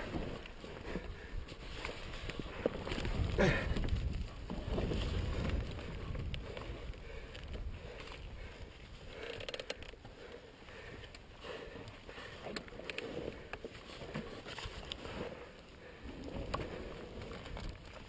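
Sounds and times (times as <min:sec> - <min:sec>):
dirt bike rattling and creaking: 0:00.0 - 0:18.0.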